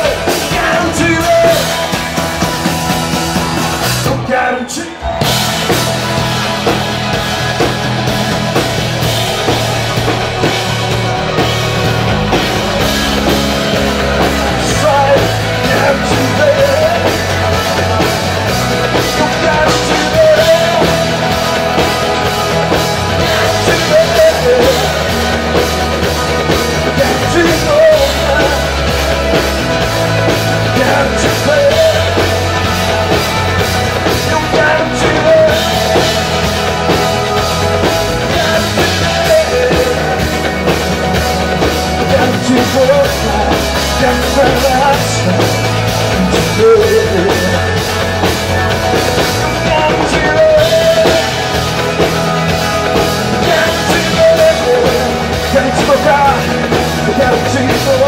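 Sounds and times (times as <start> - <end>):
man singing: 0.0 - 6.8, 9.5 - 58.0
rock band playing: 0.0 - 58.0.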